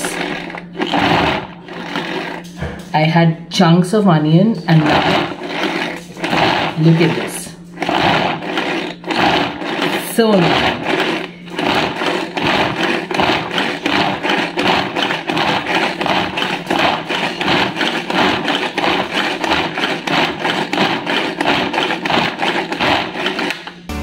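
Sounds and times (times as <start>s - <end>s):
pull-cord vegetable chopper chopping: 0.0s - 2.9s, 4.7s - 24.0s.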